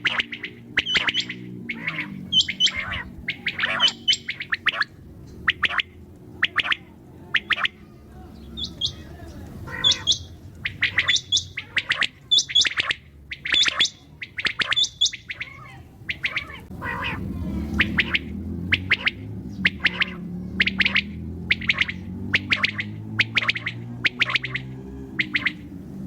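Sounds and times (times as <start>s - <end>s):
low background rumble: 0.0s - 26.0s
quail calling: 0.0s - 26.0s.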